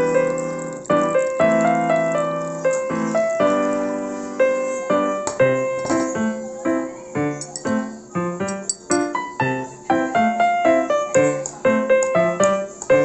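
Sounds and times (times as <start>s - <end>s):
piano playing chords and melody: 0.0s - 13.0s.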